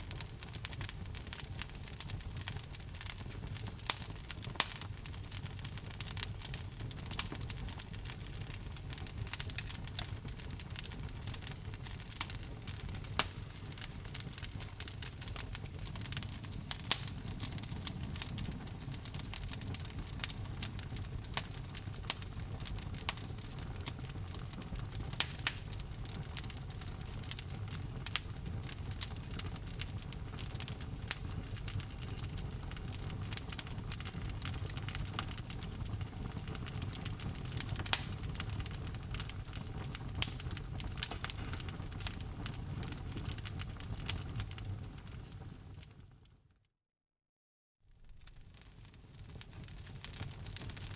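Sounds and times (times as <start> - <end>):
low rush of flames: 0.0 - 45.9
wood fire crackling and popping: 0.0 - 46.4, 48.0 - 50.9.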